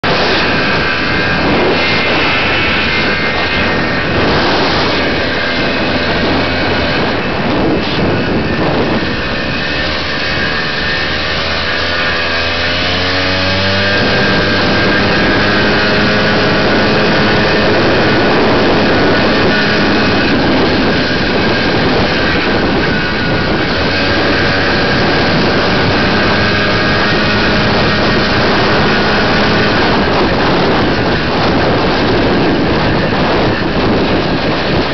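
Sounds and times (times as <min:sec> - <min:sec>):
dense rushing noise: 0:00.0 - 0:34.9
two-stroke motorcycle engine: 0:00.0 - 0:34.9.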